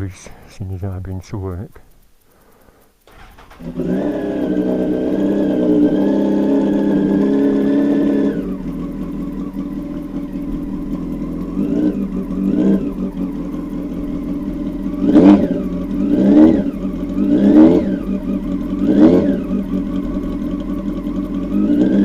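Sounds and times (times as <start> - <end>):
motorcycle engine idling and revving: 3.0 - 22.0.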